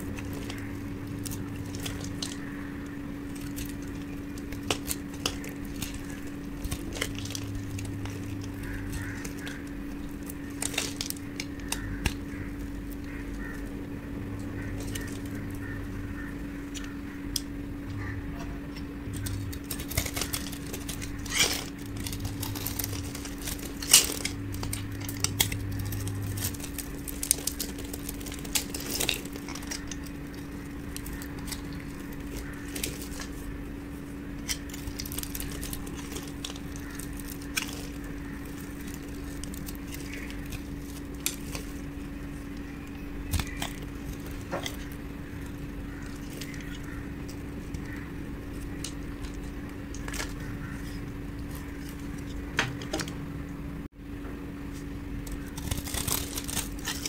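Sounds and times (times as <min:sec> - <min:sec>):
knife shaving soap: 0:00.0 - 0:17.6, 0:19.0 - 0:53.0, 0:54.7 - 0:57.0
steady low hum: 0:00.0 - 0:57.0.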